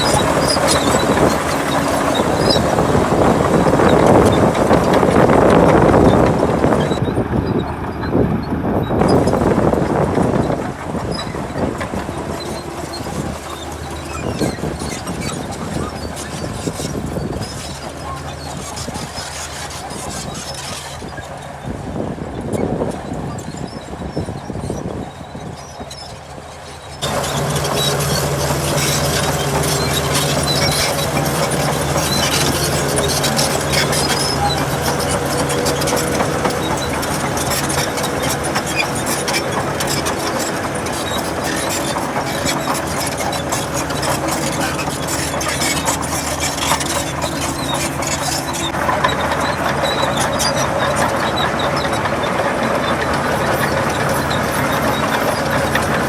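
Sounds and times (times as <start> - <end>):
heavy machinery diesel engine: 0.0 - 56.0.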